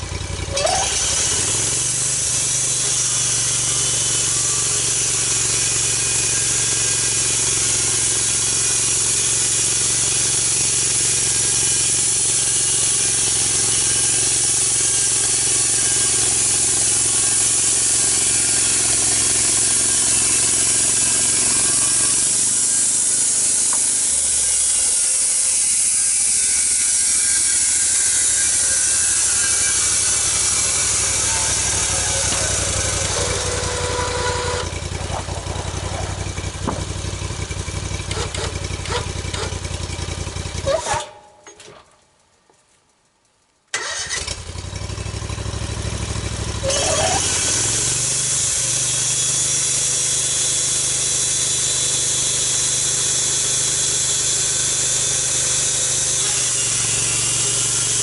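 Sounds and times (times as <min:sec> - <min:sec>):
sawmill engine hum: 0:00.0 - 0:42.0, 0:43.8 - 0:58.0
saw hissing through log: 0:00.6 - 0:39.6, 0:46.6 - 0:58.0.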